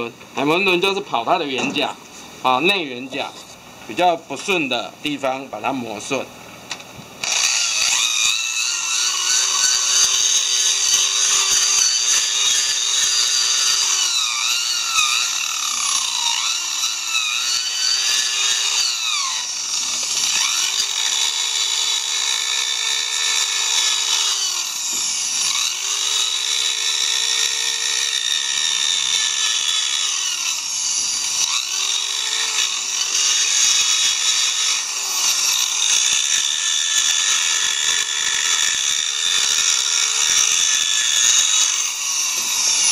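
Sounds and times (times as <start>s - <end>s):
electric grinder sanding wood: 7.2s - 42.9s.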